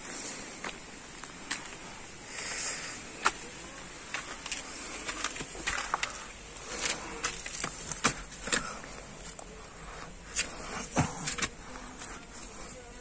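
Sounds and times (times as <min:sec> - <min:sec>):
footsteps on gritty ground: 0:00.0 - 0:13.0.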